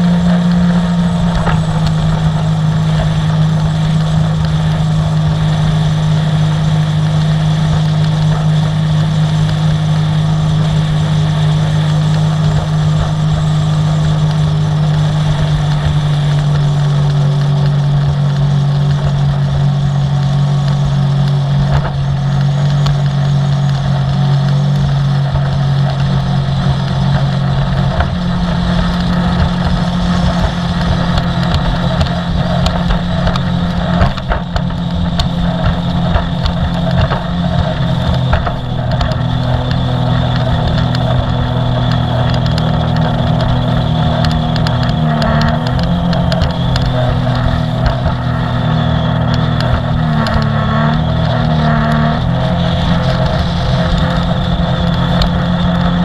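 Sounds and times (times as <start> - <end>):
watercraft engine drone: 0.0 - 56.0.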